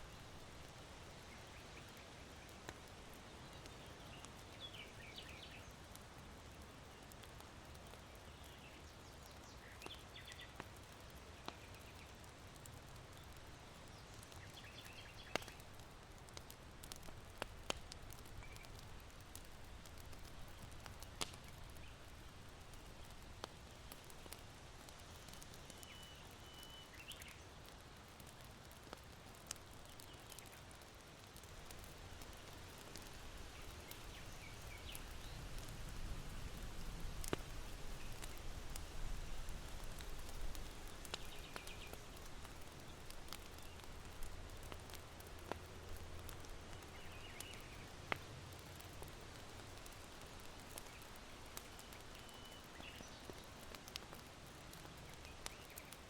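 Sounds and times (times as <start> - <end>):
charcoal crackling and popping: 0.0 - 56.0
small birds chirping faintly: 0.0 - 56.0.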